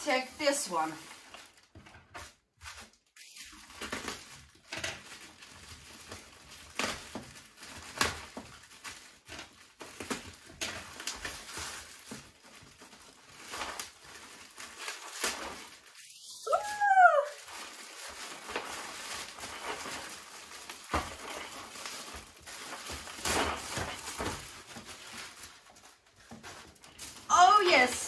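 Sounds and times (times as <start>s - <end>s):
plastic bag crinkling: 0.0s - 28.0s.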